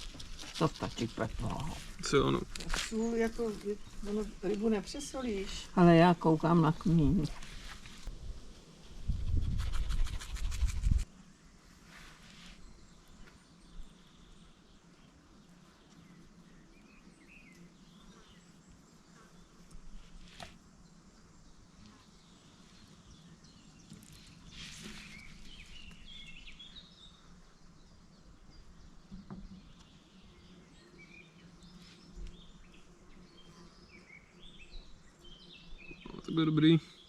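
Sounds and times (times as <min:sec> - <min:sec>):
faint birds chirping: 0:00.0 - 0:37.0.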